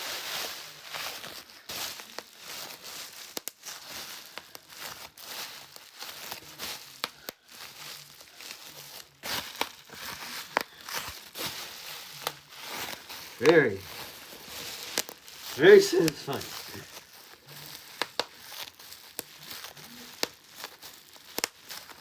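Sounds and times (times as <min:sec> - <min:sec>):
bubble wrap popping: 0:00.0 - 0:22.0
plastic sheet crinkling: 0:00.0 - 0:22.0.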